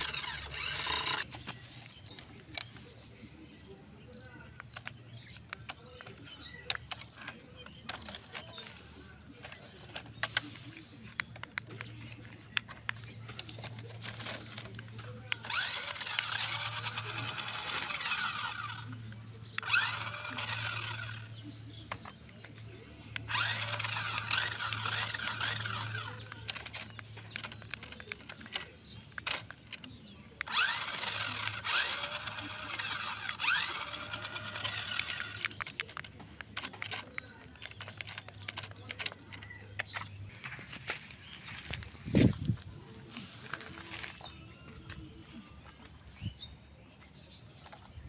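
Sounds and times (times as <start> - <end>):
toy car motors whining: 0.0 - 3.3, 4.1 - 46.4.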